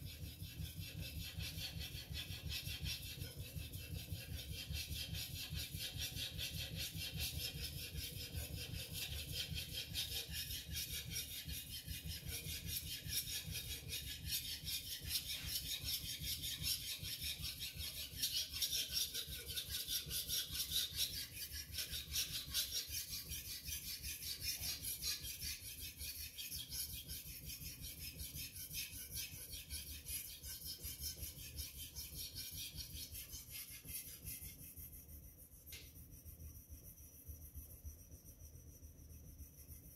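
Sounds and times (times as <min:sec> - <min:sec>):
knife scraping on whetstone: 0:00.0 - 0:36.3.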